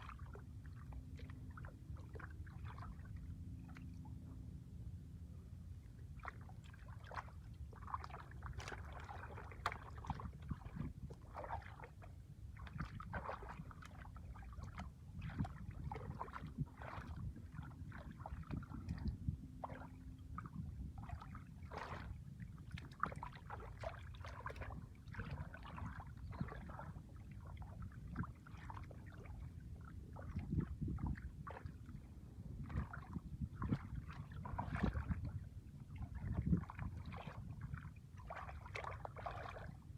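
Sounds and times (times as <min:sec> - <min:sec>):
low steady rumble: 0:00.0 - 0:39.9
splashing in shallow water: 0:00.0 - 0:39.9.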